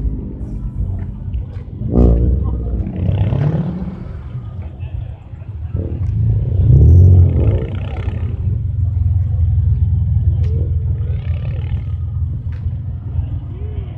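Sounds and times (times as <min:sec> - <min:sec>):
car engine revving: 0:00.0 - 0:13.9
car engine rumbling past: 0:00.0 - 0:13.9.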